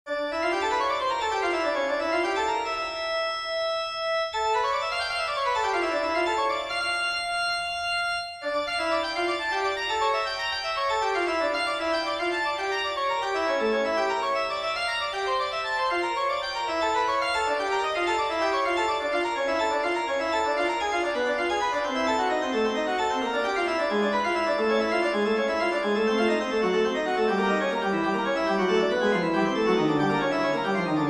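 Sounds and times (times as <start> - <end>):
organ-like keyboard music: 0.1 - 31.0.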